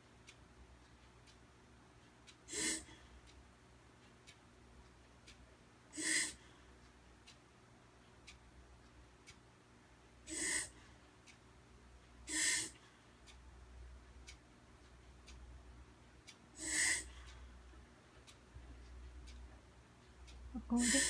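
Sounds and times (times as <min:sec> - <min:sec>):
clock ticking faintly: 0:00.0 - 0:21.0.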